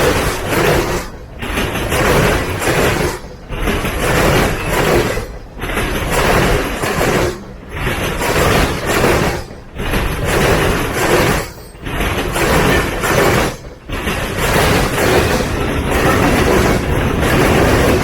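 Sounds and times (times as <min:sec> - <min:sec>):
freight train wheels clattering on rail: 0:00.0 - 0:18.0.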